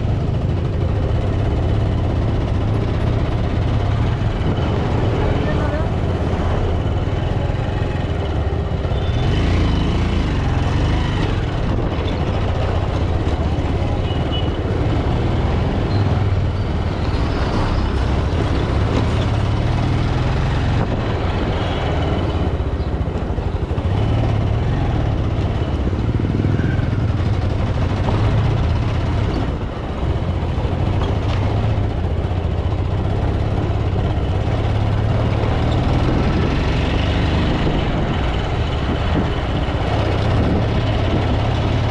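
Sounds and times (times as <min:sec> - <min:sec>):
motorcycle engine running: 0:00.0 - 0:41.9
road and wind noise: 0:00.0 - 0:41.9
surrounding traffic: 0:00.0 - 0:41.9.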